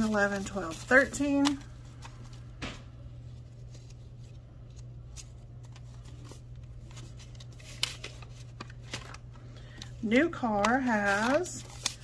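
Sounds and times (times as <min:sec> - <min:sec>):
paper bills rustling: 0:00.0 - 0:02.4, 0:03.4 - 0:12.0
paper crinkle: 0:00.0 - 0:02.4, 0:03.3 - 0:12.0
steady low hum: 0:00.0 - 0:12.0.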